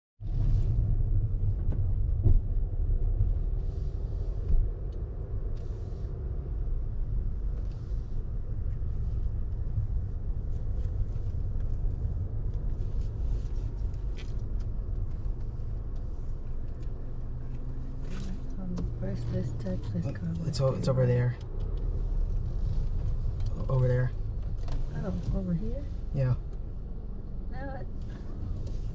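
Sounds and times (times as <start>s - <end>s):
car engine rumbling: 0.2s - 28.9s.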